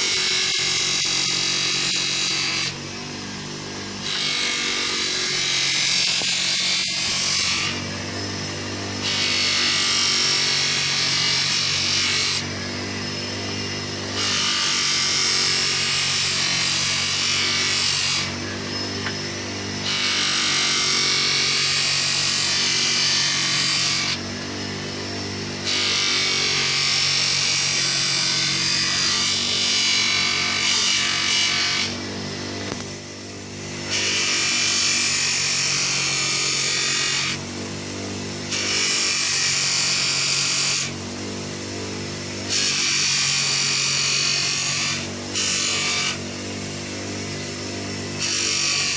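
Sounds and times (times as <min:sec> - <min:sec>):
power tool motor running: 0:00.0 - 0:48.9.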